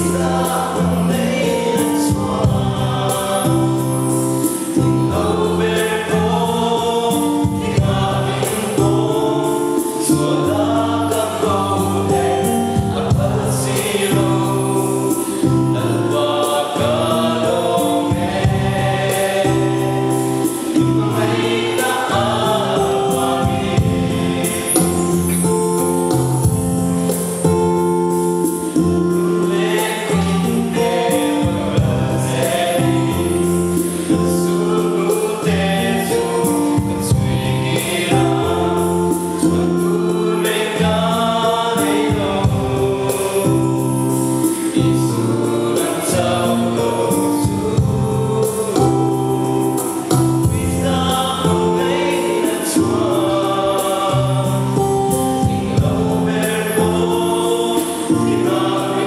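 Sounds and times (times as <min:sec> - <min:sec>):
group singing gospel in harmony: 0:00.0 - 0:59.0.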